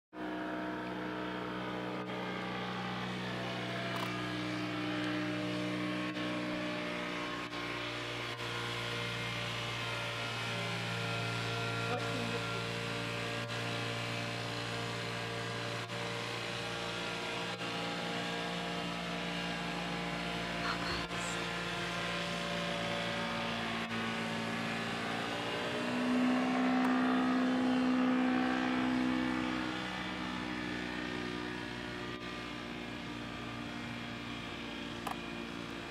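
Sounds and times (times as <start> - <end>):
paramotor engine droning overhead: 0.1 - 35.9.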